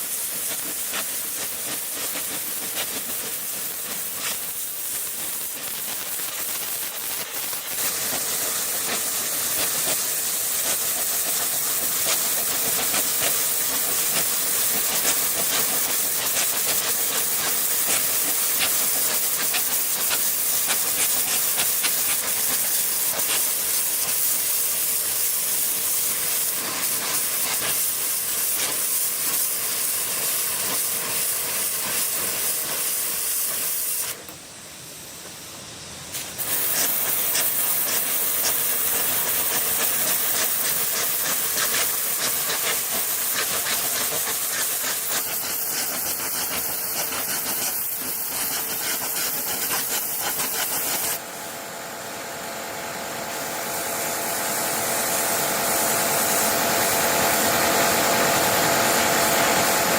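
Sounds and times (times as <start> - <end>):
loud hissing noise: 0.0 - 59.9.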